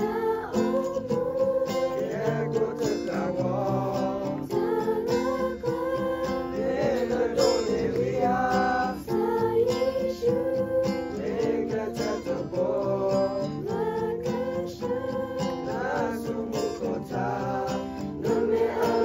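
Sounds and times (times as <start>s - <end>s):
group of people singing: 0.0s - 19.0s
strummed acoustic guitar: 0.0s - 19.0s.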